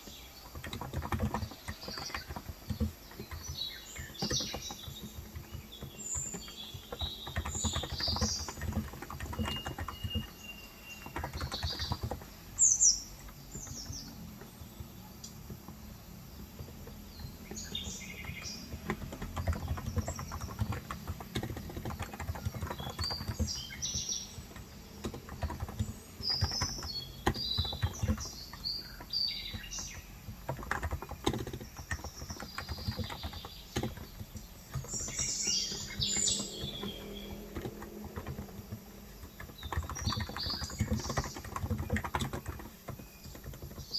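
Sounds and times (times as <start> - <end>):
birds chirping: 0.0 - 43.9
keyboard typing: 0.0 - 43.9.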